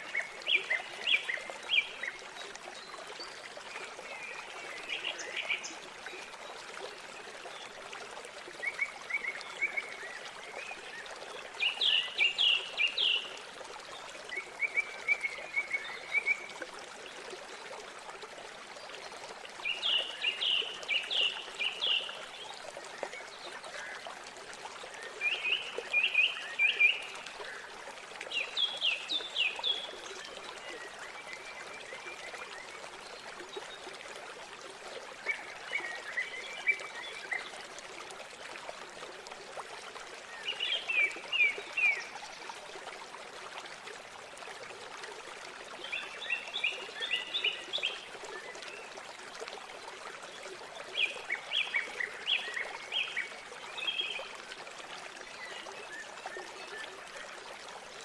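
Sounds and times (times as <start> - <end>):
river water running: 0.0 - 58.0.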